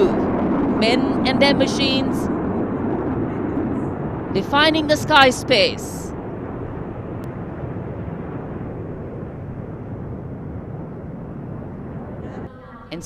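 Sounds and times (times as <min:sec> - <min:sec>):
jet aircraft engine rush: 0:00.0 - 0:13.0.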